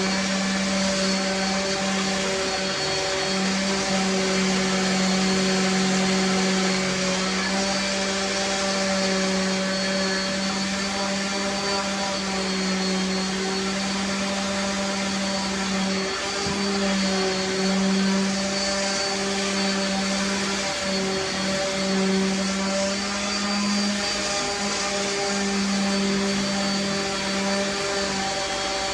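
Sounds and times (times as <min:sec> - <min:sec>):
electric motor hum: 0:00.0 - 0:28.9.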